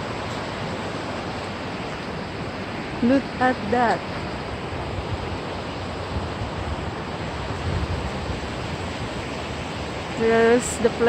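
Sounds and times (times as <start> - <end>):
fast-flowing river rushing: 0.0 - 11.0
wind rumble on microphone: 0.0 - 11.0.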